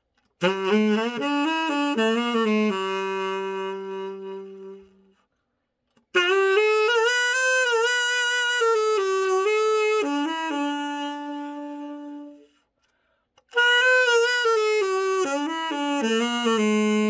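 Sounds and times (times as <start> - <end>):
solo tenor saxophone: 0.4 - 5.2, 6.0 - 12.6, 13.4 - 17.0.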